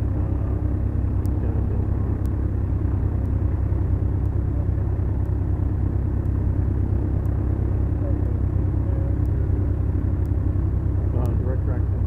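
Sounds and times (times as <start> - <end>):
aircraft piston engines droning: 0.0 - 12.0.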